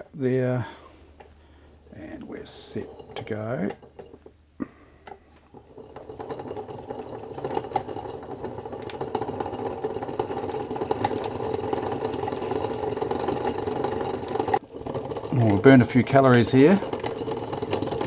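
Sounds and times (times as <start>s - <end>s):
hand-cranked sewing machine rattling: 1.9s - 4.3s, 5.0s - 18.0s.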